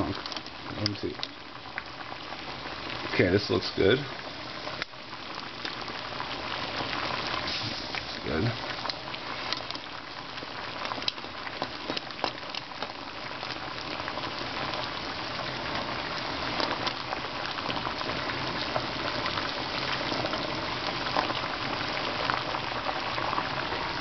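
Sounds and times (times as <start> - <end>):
water boiling in a saucepan: 0.0 - 24.0.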